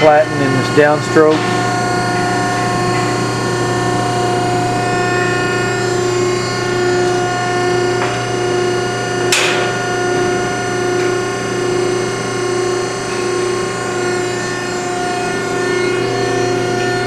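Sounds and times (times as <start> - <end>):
electric motor and hydraulic pump hum: 0.0 - 17.0.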